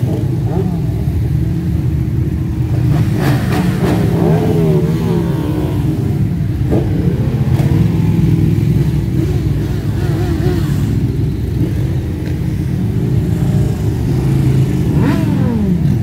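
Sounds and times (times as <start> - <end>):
motorcycle engine revving: 0.0 - 16.0
motorcycles rumbling past: 2.6 - 16.0.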